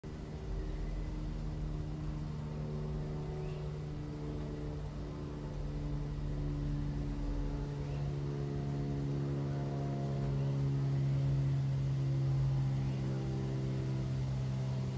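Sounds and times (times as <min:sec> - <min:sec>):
jet engines rumbling: 0:00.0 - 0:14.9.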